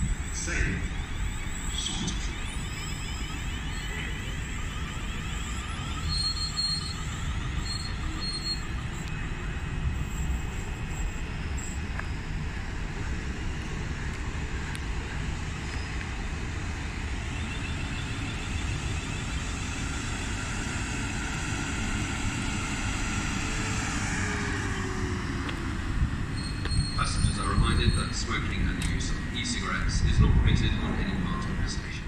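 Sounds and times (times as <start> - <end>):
faint high squeal: 0.0 - 13.7, 14.6 - 29.6
train rumbling: 0.0 - 32.0.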